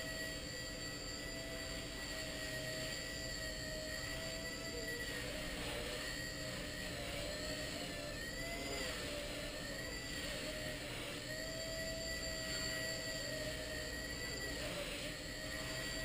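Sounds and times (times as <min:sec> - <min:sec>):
rc helicopter whine: 0:00.0 - 0:16.0.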